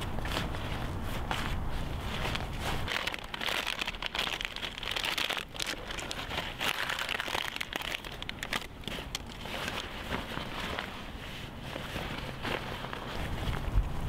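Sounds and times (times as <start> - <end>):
fabric backpack rustling: 0.0 - 14.0.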